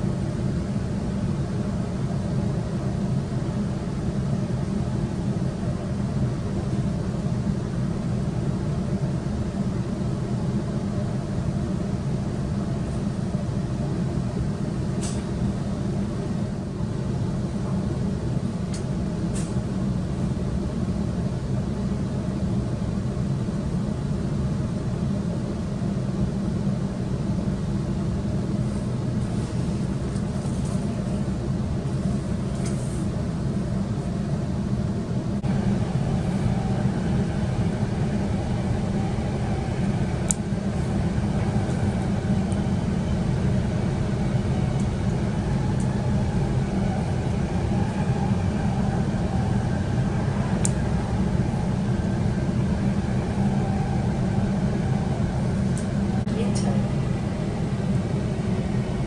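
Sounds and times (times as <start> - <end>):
electric train rumble and hum: 0.0 - 59.0.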